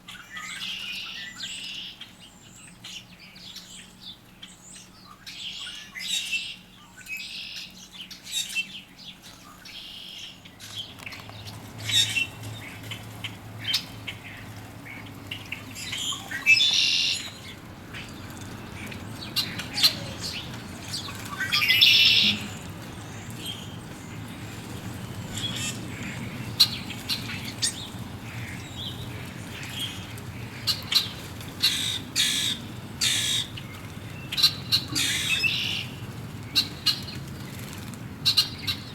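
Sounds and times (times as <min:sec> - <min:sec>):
birds calling: 0:00.1 - 0:38.9.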